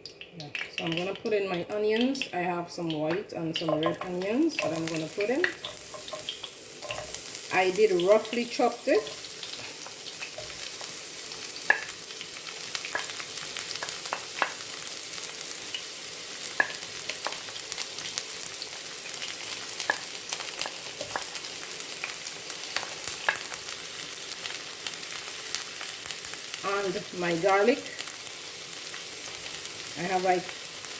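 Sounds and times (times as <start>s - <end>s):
oil crackling and popping: 0.0s - 2.3s, 2.9s - 30.9s
onions sizzling in hot oil: 0.2s - 30.9s.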